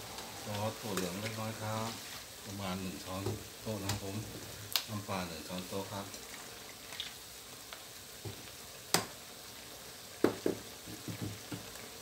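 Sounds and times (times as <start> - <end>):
stir-fry sizzling in a wok: 0.0 - 12.0.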